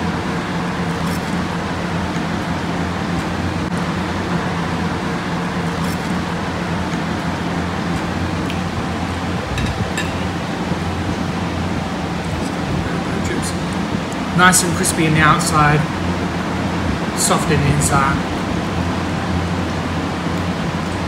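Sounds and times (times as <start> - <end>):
ventilation hum and hiss: 0.0 - 21.0.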